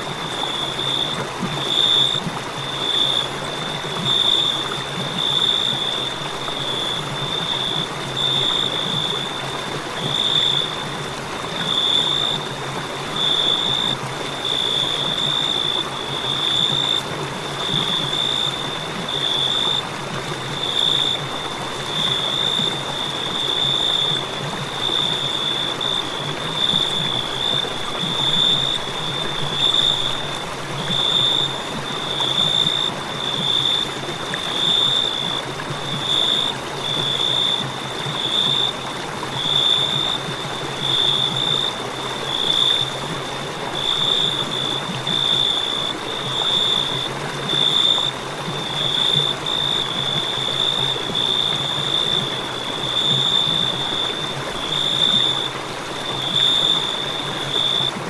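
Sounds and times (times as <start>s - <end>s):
cricket chirping: 0.0s - 10.9s, 11.6s - 12.5s, 13.1s - 58.0s.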